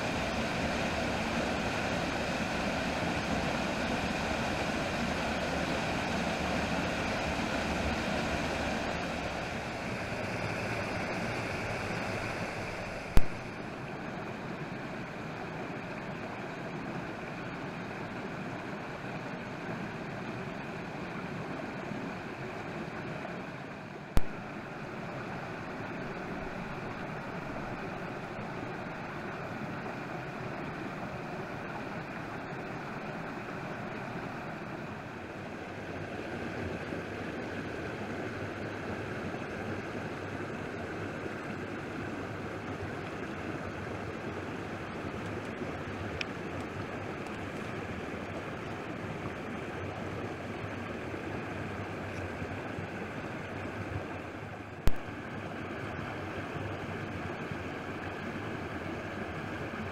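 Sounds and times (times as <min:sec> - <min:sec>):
creek cascading over rocks: 0:00.0 - 0:59.9.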